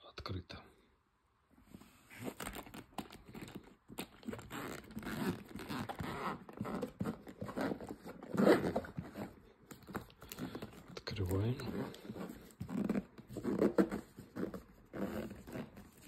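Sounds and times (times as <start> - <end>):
bag rustling and scraping: 1.7 - 16.0
zipper pulled open: 2.0 - 11.0, 11.6 - 16.0.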